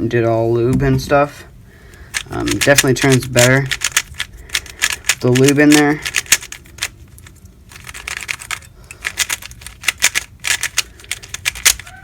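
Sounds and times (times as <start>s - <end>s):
puzzle cube plastic clicks: 2.0s - 12.0s.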